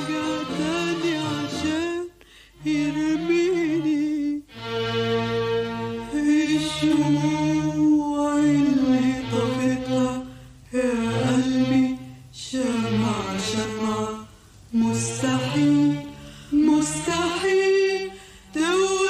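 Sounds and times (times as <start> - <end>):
person singing ornamented notes: 0.0 - 4.5, 6.0 - 19.0.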